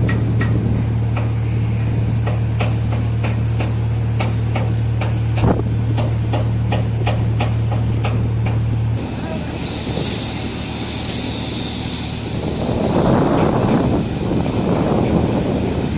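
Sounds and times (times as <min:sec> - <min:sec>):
machinery droning: 0:00.0 - 0:15.9.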